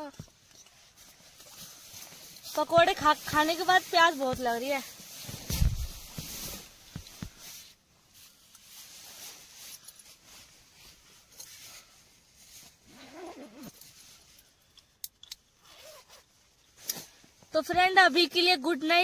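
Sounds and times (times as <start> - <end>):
rustling of sleeping bags: 0.0 - 19.0.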